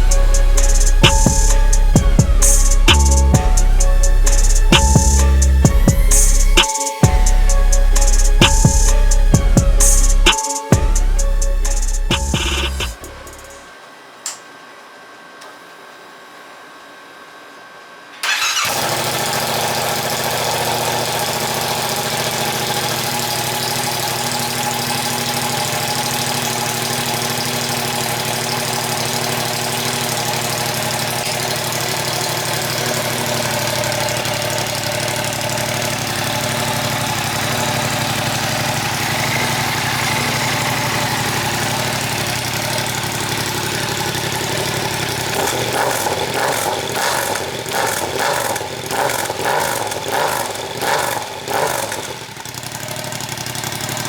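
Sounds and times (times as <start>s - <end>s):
motorcycle engine idling: 0.0s - 13.6s, 18.3s - 54.0s.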